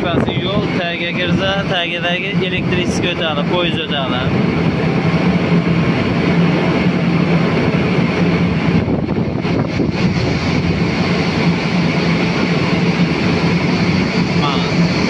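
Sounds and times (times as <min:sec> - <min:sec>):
boat engine drone: 0:00.0 - 0:15.0
water noise: 0:00.0 - 0:15.0
wind noise: 0:00.0 - 0:15.0.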